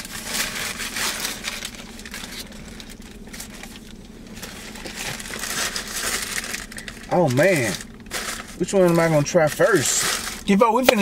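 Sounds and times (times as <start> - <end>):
paper wrapping rustling: 0.0 - 11.0.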